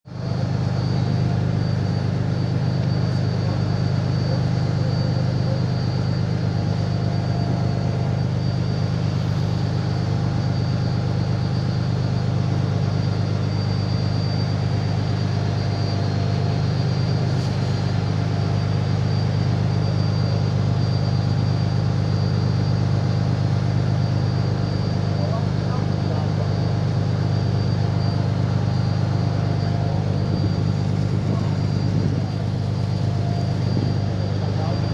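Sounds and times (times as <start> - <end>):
faint high whine: 0.1 - 34.9
ferry engines droning: 0.1 - 34.9.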